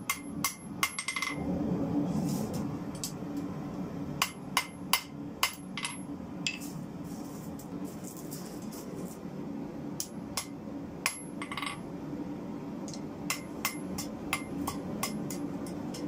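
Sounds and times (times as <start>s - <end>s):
steady low rumble: 0.2s - 16.0s.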